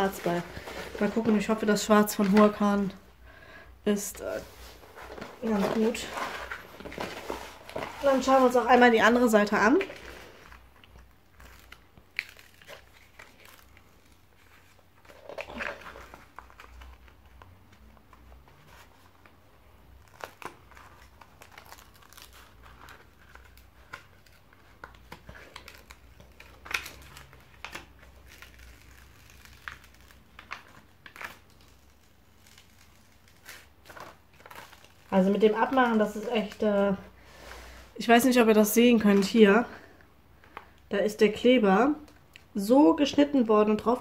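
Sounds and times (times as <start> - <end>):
paper rustling and crinkling: 0.0 - 3.0, 4.2 - 37.8.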